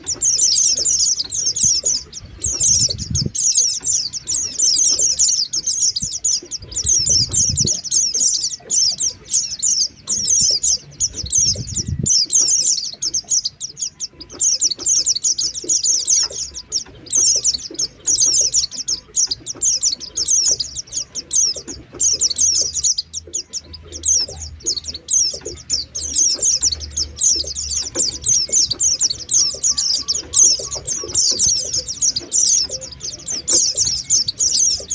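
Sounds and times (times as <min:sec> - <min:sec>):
bird twittering trills: 0:00.0 - 0:34.9.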